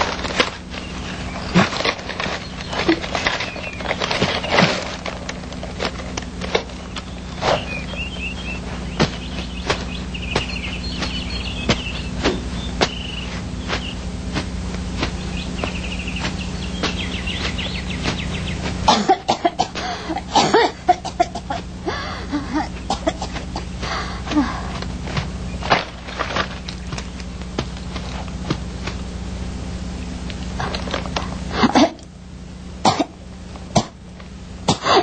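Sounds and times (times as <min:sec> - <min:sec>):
birds chirping in trills: 0:00.0 - 0:35.0
steady low hum: 0:00.0 - 0:35.0.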